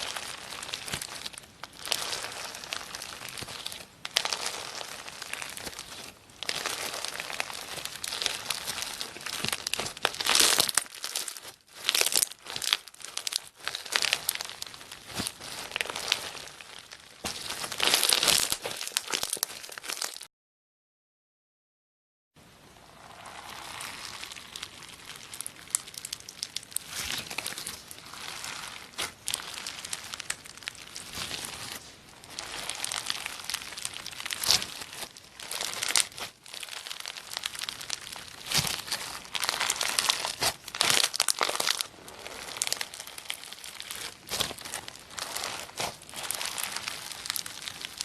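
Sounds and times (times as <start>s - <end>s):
slime being squished: 0.0s - 20.3s, 22.9s - 48.0s.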